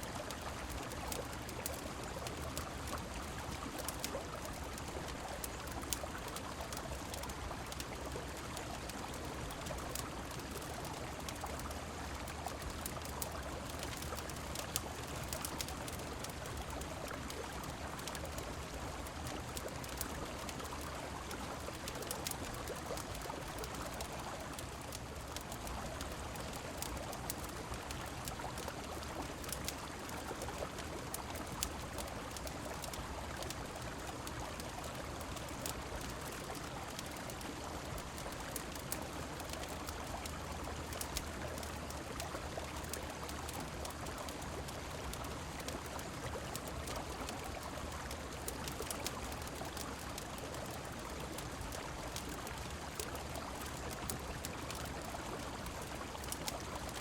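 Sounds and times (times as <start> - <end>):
flowing river: 0.0 - 57.0
rain: 0.0 - 57.0.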